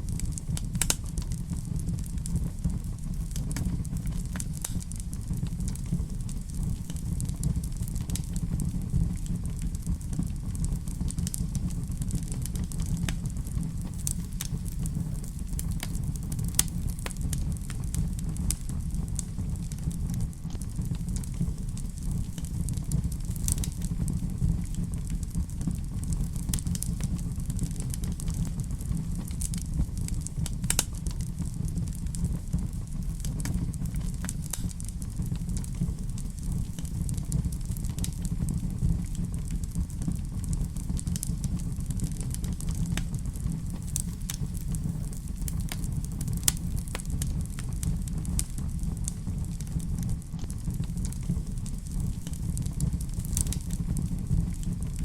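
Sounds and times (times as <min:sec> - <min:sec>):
fire crackling: 0:00.0 - 0:55.0
fire popping and snapping: 0:00.0 - 0:55.0
low rumble of flames: 0:00.0 - 0:55.0.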